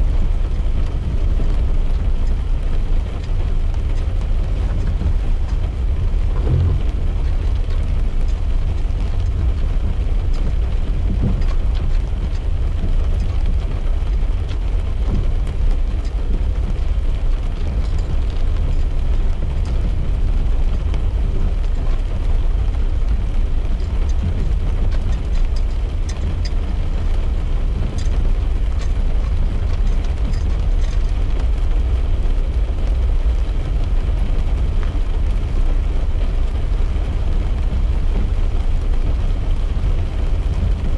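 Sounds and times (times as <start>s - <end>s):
car engine and road rumble: 0.0s - 40.9s
rain ticking on glass: 0.0s - 40.9s.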